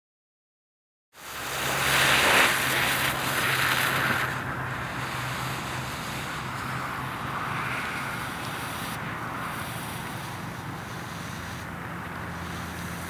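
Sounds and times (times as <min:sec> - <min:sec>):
smoke balls hissing: 0:01.2 - 0:13.0.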